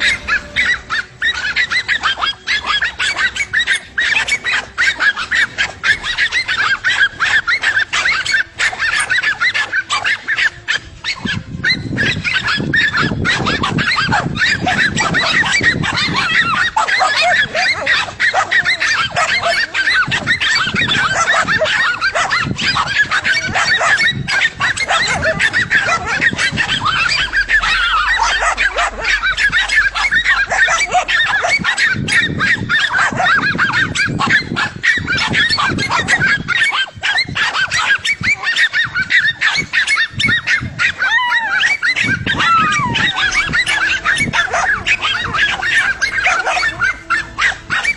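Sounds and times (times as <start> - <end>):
chorus of fowl calling: 0.0 - 47.9.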